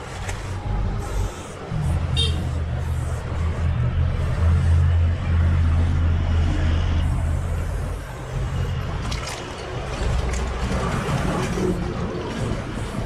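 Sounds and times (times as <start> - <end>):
heavy vehicle engine drone: 0.0 - 13.0.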